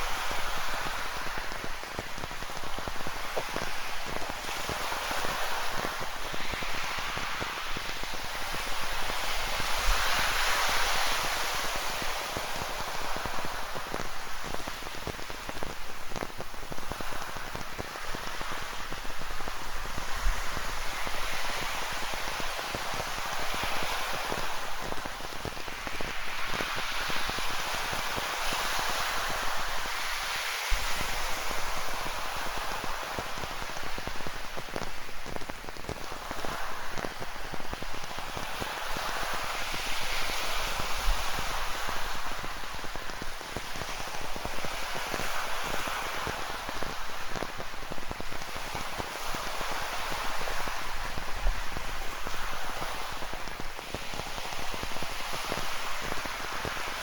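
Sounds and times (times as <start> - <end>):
ocean surf: 0.0 - 57.0
rain pattering: 0.0 - 57.0.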